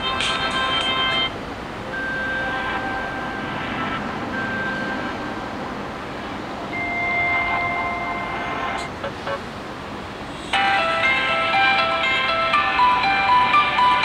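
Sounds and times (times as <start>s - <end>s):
background noise: 0.0s - 14.0s.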